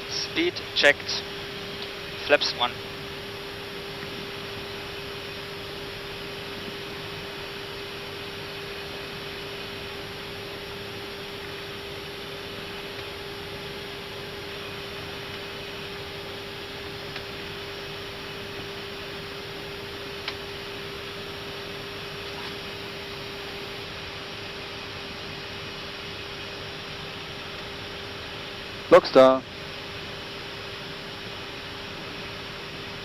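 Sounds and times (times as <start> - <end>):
mid-pitched electrical hum: 0.0 - 33.0.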